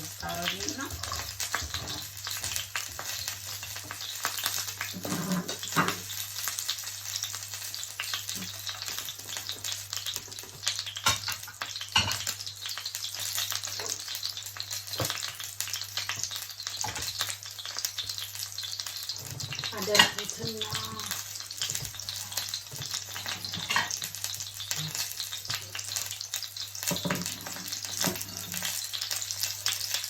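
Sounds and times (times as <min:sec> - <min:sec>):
fish sizzling in a pan: 0:00.0 - 0:30.0.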